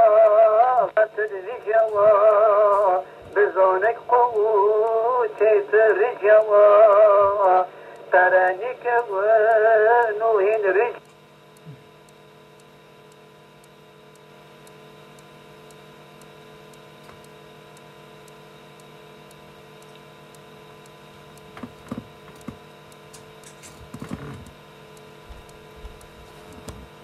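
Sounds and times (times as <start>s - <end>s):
electrical mains hum: 0.0s - 27.0s
faint regular ticking: 0.0s - 27.0s.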